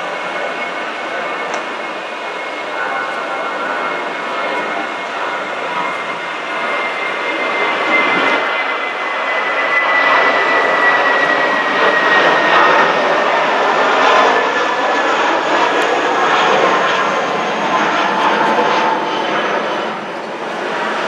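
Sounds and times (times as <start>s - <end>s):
jet airliner roar and whine: 0.0s - 21.0s.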